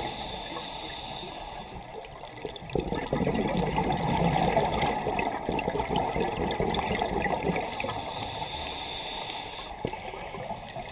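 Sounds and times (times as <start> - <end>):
underwater rushing and bubbling: 0.0 - 10.9.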